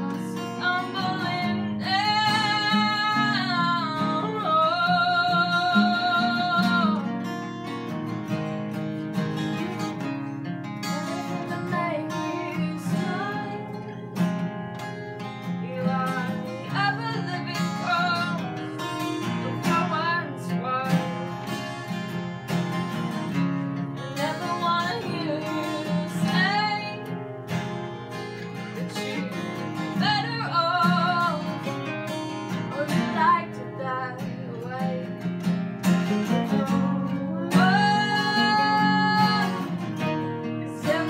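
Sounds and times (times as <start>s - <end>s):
acoustic guitars playing: 0.0s - 41.0s.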